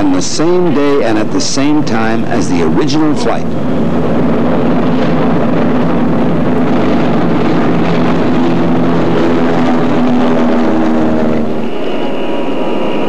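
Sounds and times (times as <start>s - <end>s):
propeller engines droning: 0.0s - 13.0s.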